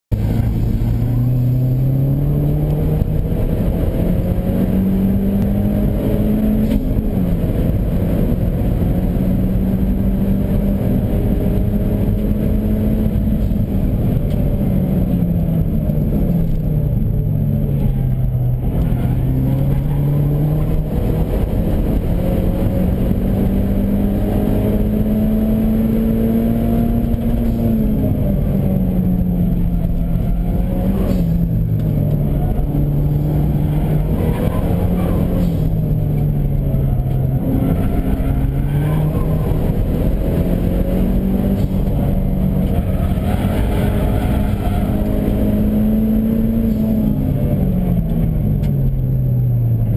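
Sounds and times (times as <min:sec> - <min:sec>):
road and tyre noise: 0:00.0 - 0:49.9
car engine revving: 0:00.1 - 0:49.9.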